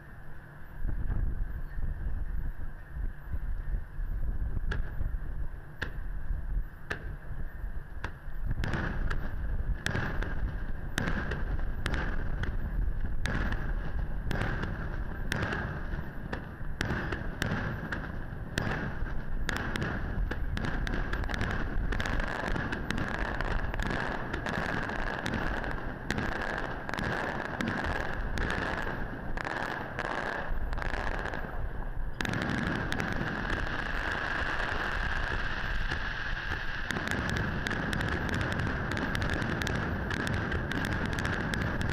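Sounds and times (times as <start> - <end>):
fireworks bursting: 4.6 - 41.9.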